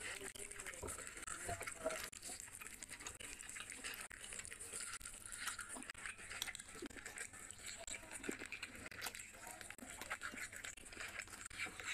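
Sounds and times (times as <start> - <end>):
chewing: 0.0 - 11.9.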